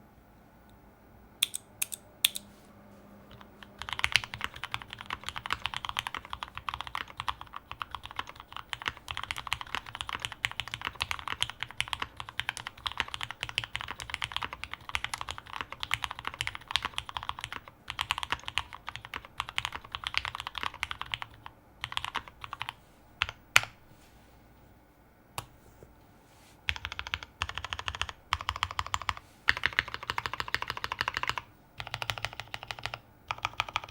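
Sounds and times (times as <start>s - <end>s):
typing on mechanical keyboard: 1.4s - 2.4s, 3.3s - 23.7s, 26.7s - 33.9s.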